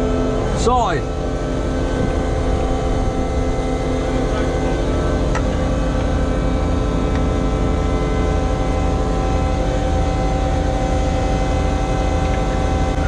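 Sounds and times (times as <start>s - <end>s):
crane engine humming: 0.0s - 13.0s.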